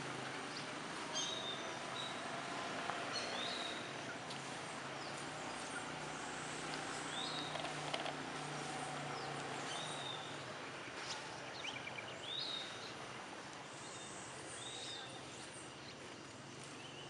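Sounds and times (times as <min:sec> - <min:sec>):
forest background hiss: 0:00.0 - 0:17.0.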